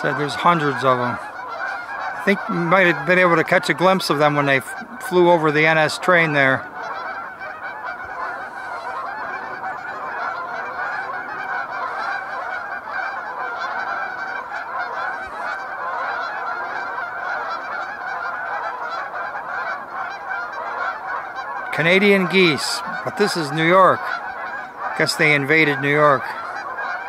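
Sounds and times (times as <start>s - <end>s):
geese squawking and honking: 0.0s - 27.0s.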